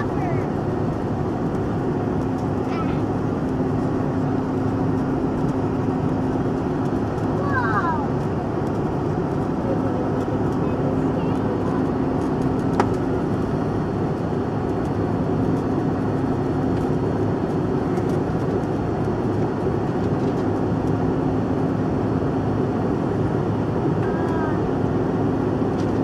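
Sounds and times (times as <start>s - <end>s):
jet engine drone: 0.0s - 26.0s.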